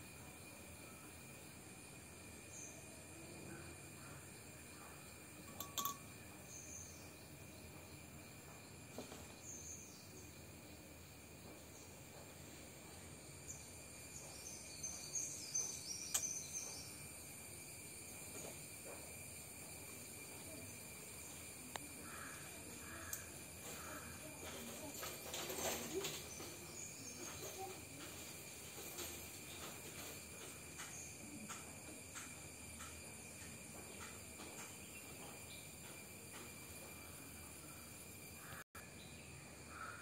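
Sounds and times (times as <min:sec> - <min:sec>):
insect drone: 0:00.0 - 0:40.0.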